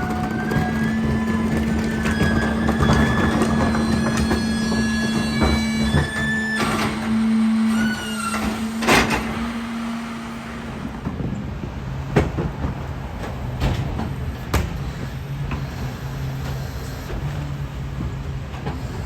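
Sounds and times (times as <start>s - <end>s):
garbage truck whine: 0.0s - 19.0s.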